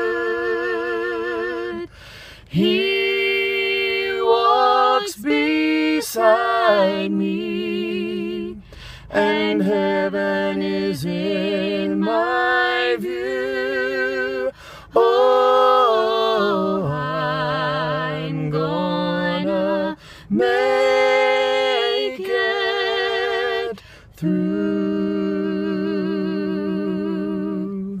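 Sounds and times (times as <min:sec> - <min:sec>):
man and girl singing a cappella: 0:00.0 - 0:28.0.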